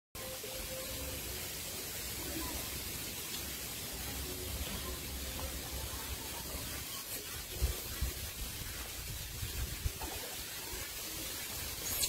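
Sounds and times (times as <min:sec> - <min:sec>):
outdoor background hiss: 0:00.2 - 0:12.0.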